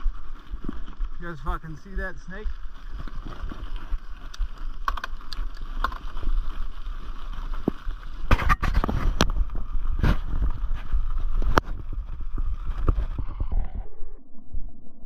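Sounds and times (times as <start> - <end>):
bike clicks and rattles: 0.0 - 13.5
bike tyres rumbling on gravel: 0.0 - 14.1.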